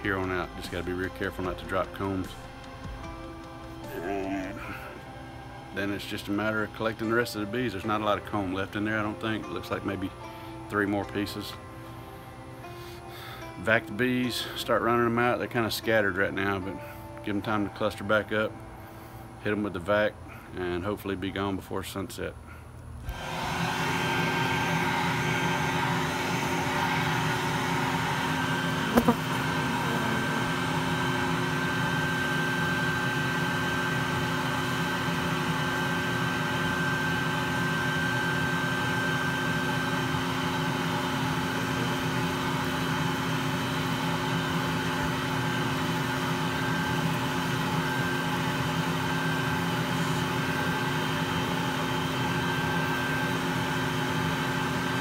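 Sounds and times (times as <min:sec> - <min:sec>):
bee vacuum running: 0:00.0 - 0:21.5, 0:23.0 - 0:55.0.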